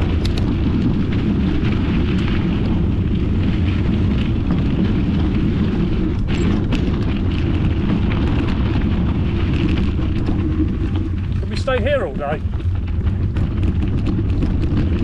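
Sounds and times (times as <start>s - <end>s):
tyre noise on gravel: 0.0s - 15.0s
wind buffeting microphone: 0.0s - 15.0s.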